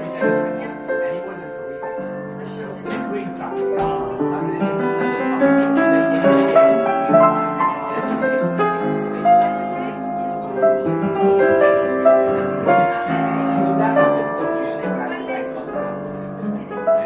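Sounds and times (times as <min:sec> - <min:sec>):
live jazz piano: 0:00.0 - 0:17.0.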